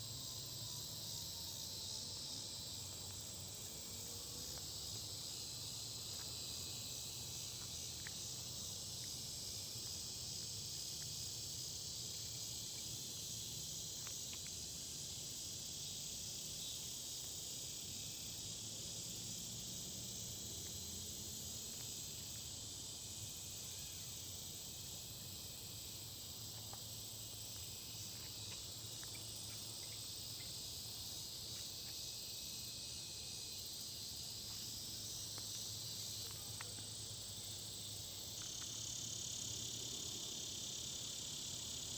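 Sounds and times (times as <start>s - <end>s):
crickets trilling: 0.0s - 41.9s
pulsing high insect layer: 0.0s - 41.9s.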